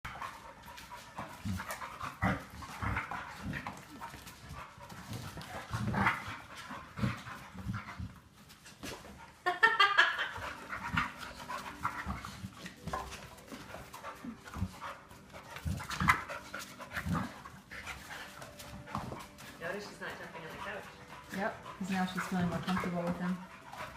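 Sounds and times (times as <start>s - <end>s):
dogs panting: 0.1s - 23.9s.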